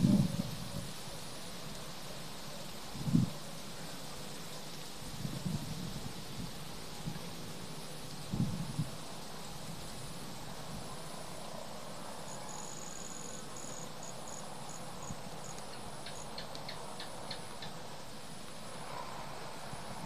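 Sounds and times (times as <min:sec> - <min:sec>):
insects chirping: 0:00.0 - 0:20.0
steady outdoor hiss: 0:00.0 - 0:20.0.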